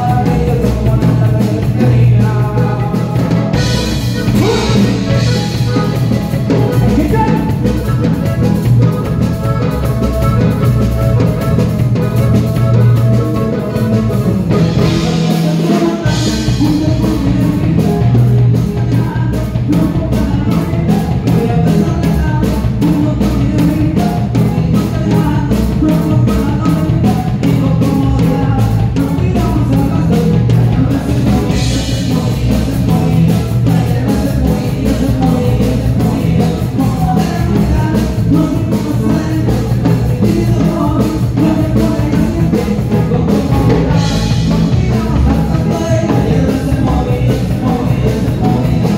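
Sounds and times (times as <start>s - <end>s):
accordion: 0.0s - 48.9s
drums: 0.0s - 48.9s
live band music: 0.0s - 48.9s
person singing: 0.0s - 48.9s.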